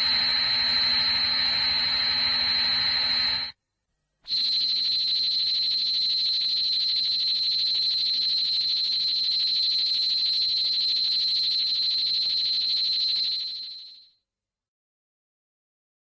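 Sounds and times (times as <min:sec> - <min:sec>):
high-pitched electronic whine: 0:00.0 - 0:03.6, 0:04.3 - 0:14.0.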